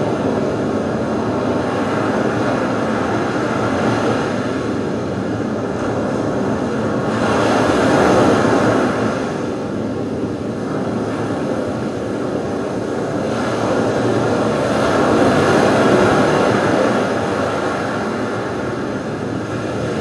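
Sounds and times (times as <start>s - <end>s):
ambient rumbling noise soundtrack: 0.0s - 20.0s.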